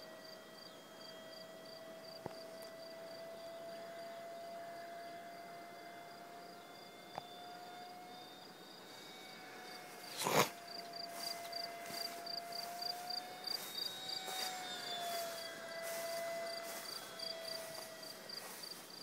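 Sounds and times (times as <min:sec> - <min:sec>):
model jet fan whine: 0:00.0 - 0:19.0
crickets chirping: 0:00.2 - 0:19.0.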